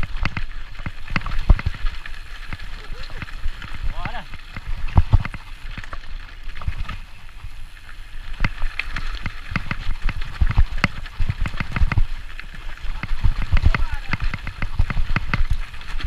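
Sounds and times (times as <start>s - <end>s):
bike rattling: 0.0s - 16.0s
tyres crunching on gravel: 0.0s - 16.0s.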